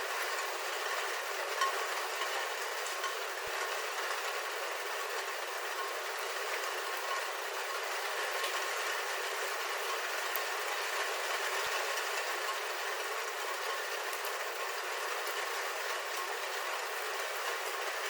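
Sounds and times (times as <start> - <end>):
rain pattering on a roof: 0.0 - 18.0.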